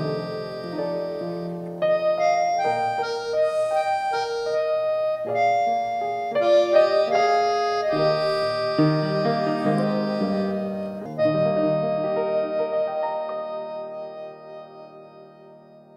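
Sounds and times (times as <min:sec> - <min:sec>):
keyboard melody over low chords: 0:00.0 - 0:15.9.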